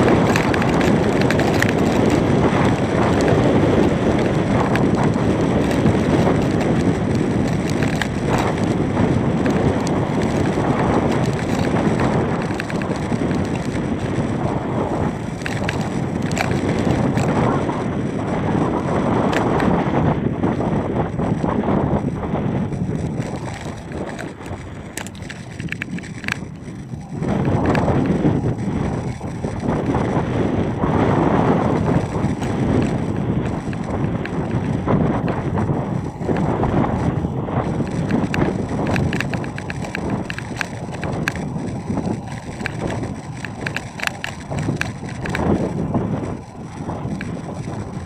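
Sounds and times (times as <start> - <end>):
faint ticks: 0.0 - 17.5, 22.7 - 30.1, 31.7 - 48.0
wind buffeting microphone: 0.0 - 48.0.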